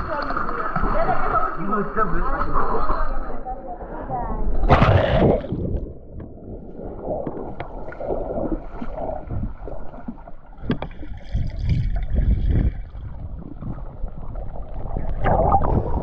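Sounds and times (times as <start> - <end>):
underwater rush of water: 0.0 - 16.0.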